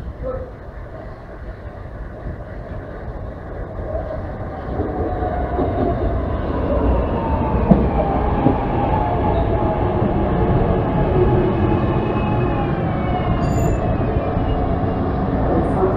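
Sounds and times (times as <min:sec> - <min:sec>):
train rumble: 0:00.0 - 0:15.9.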